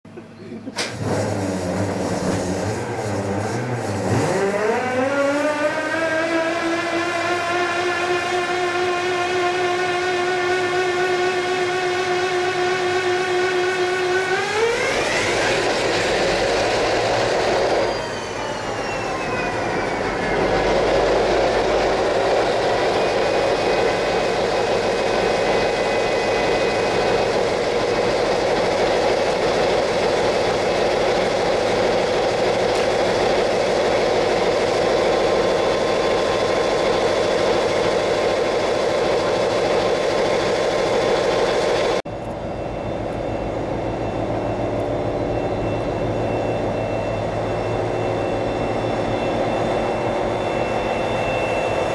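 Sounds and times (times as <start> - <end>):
diesel locomotive engine starting: 0.1 - 51.9.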